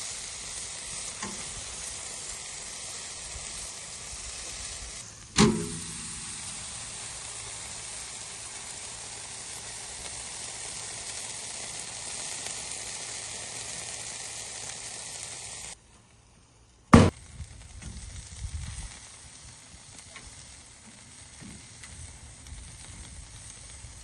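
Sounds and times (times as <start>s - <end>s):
shrimp sizzling: 0.0s - 15.8s, 16.5s - 24.0s.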